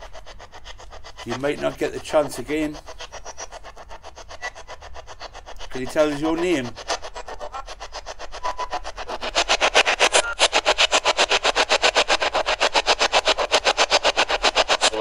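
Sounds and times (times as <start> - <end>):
radio scanner static pulses: 1.1 - 15.0.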